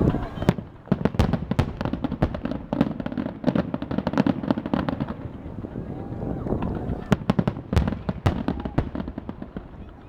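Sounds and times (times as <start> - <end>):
fireworks crackling: 0.0 - 10.0
fireworks sharp bangs: 0.0 - 10.0.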